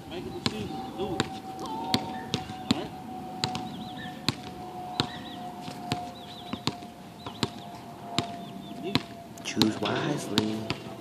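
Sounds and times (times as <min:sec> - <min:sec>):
basketball bouncing on concrete: 0:00.4 - 0:07.6, 0:08.2 - 0:11.0.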